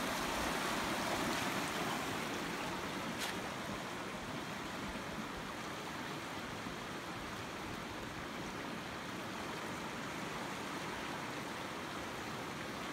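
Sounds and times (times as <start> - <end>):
creek flowing over rocks: 0.0 - 12.9.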